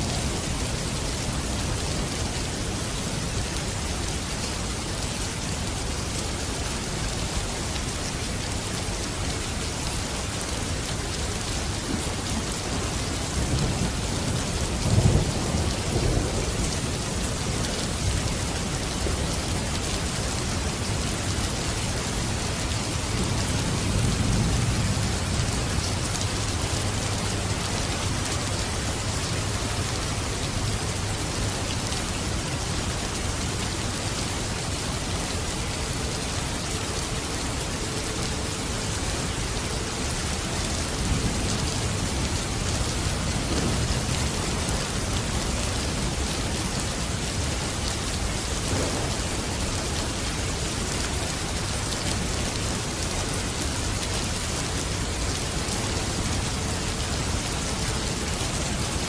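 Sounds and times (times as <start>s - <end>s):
dense rain pattering: 0.0s - 59.0s.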